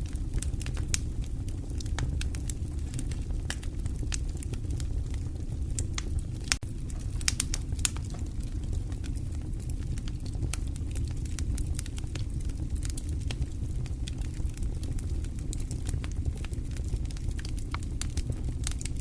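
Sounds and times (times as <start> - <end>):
fire crackling in fireplace: 0.0 - 19.0.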